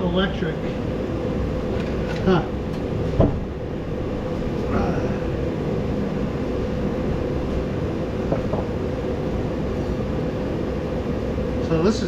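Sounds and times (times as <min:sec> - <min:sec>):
faint constant hum: 0:00.0 - 0:12.0
low mechanical drone: 0:00.0 - 0:12.0.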